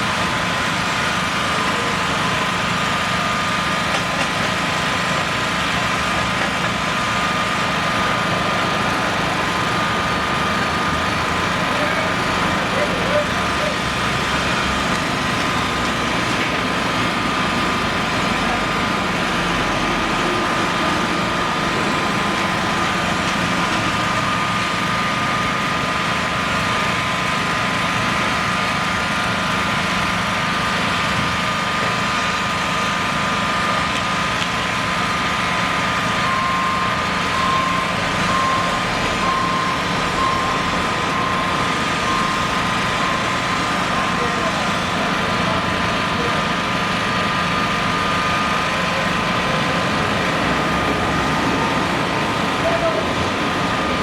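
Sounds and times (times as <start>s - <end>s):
machine engine running: 0.1s - 31.4s, 34.8s - 54.0s.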